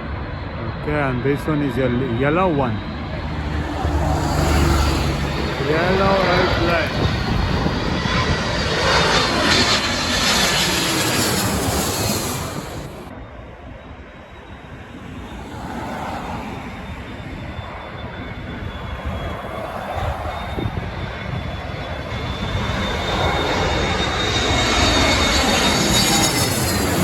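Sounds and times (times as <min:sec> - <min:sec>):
high engine whine: 0:00.0 - 0:27.0
jet airliner flying overhead: 0:00.0 - 0:27.0.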